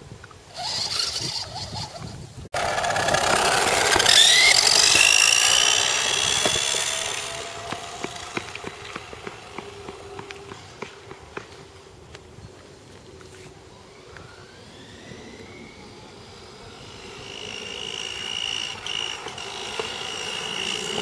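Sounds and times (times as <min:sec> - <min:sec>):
toy car motor whining: 0:00.5 - 0:10.6, 0:13.9 - 0:21.0.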